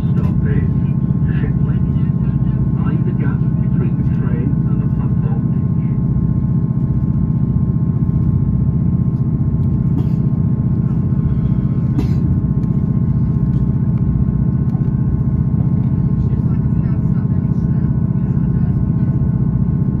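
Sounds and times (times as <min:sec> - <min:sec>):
train diesel engine drone: 0:00.0 - 0:20.0.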